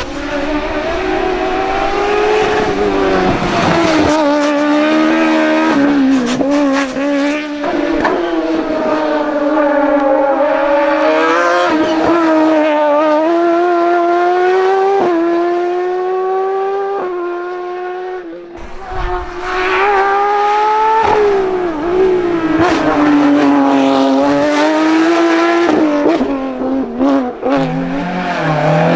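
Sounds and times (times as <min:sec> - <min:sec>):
race car engine at high revs: 0:00.0 - 0:28.9.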